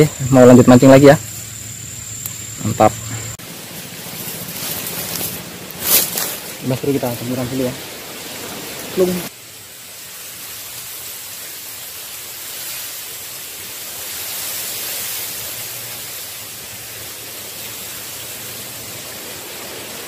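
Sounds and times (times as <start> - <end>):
strong wind hissing: 0.0 - 20.0.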